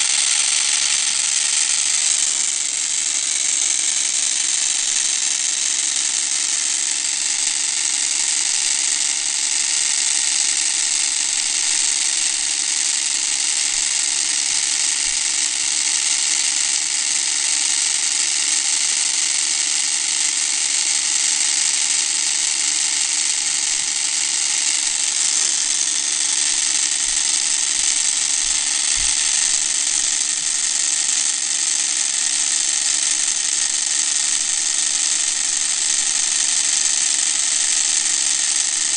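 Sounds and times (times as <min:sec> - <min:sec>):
small motor whirring: 0:00.0 - 0:38.9.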